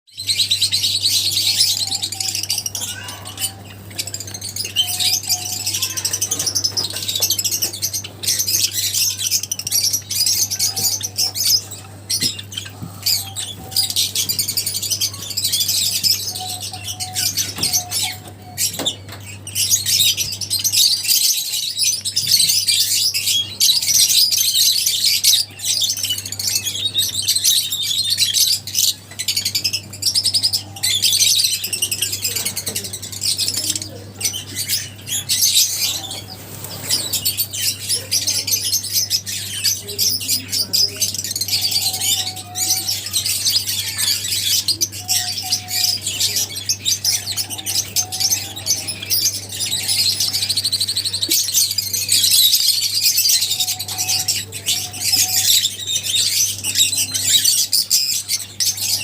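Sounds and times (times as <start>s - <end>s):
lovebirds chirping and squawking: 0.1s - 59.0s.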